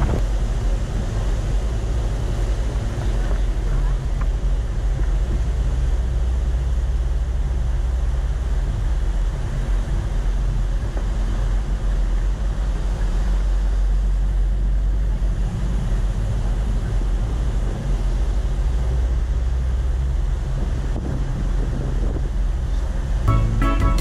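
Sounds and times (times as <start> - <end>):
vehicle driving on sand: 0.0 - 24.0.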